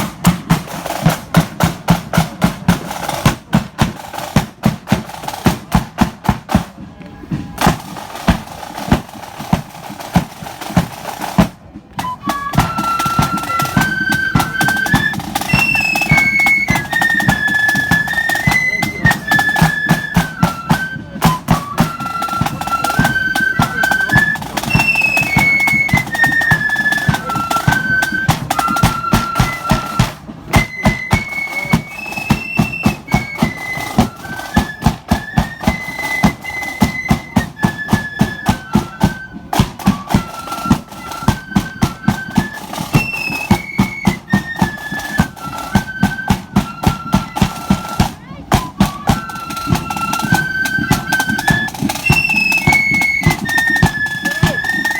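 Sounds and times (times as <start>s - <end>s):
flutes playing a melody: 0.0s - 54.9s
marching drum beat: 0.0s - 54.9s.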